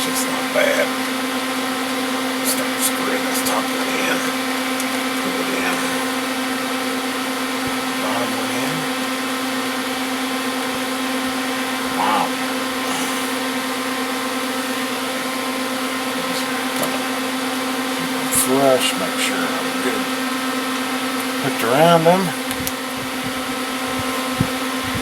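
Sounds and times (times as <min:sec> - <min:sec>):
electric motor hum and whir: 0:00.0 - 0:25.0.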